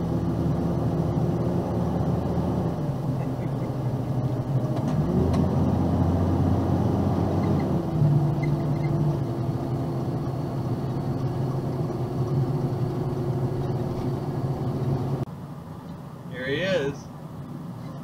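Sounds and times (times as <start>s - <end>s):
road rumble: 0.0s - 18.0s
truck engine drone: 0.0s - 18.0s.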